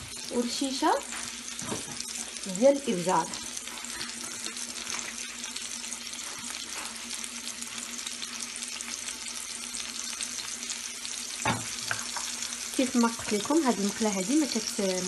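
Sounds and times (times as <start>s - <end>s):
burgers sizzling in oil: 0.0s - 15.0s.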